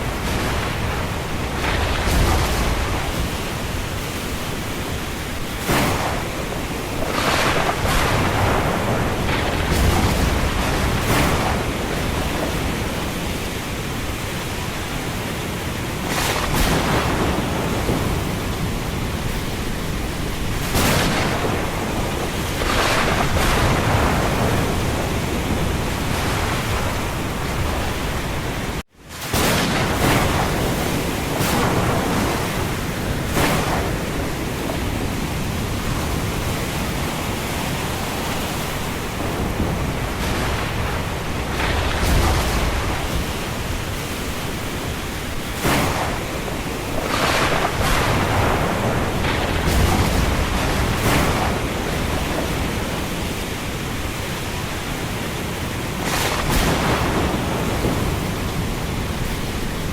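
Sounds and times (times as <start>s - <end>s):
rain: 0.0s - 59.9s
wind: 0.0s - 59.9s.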